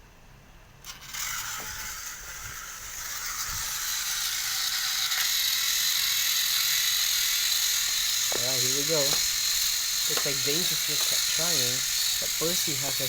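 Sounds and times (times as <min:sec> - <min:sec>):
toy train motor whirring: 0:00.8 - 0:13.0.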